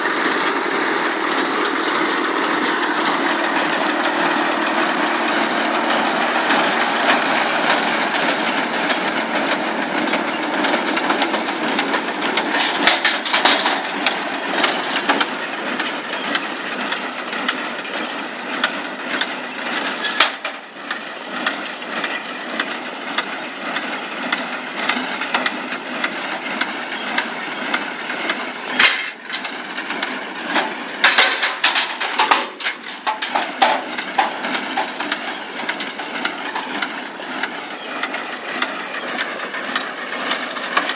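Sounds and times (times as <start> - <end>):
tractor and hay baler running: 0.0 - 40.9.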